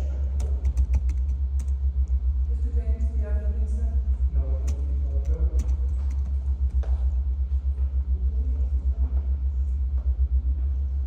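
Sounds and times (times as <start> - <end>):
pulsing low rumble: 0.0 - 11.0.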